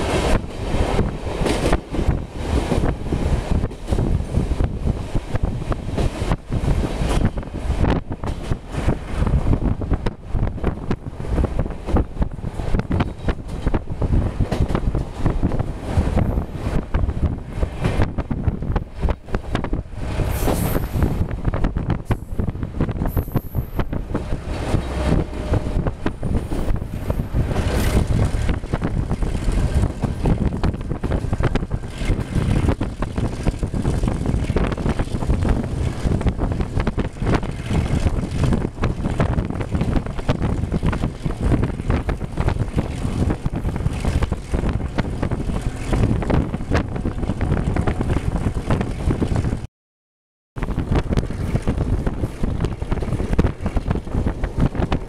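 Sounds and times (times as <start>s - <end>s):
train wheels rumbling on rails: 0.0s - 49.7s, 50.6s - 55.0s
wind noise on microphone: 0.0s - 49.7s, 50.6s - 55.0s.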